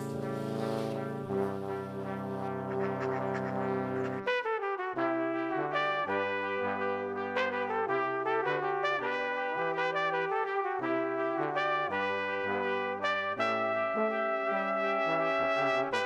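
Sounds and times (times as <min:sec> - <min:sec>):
brass-led music: 0:00.0 - 0:16.0.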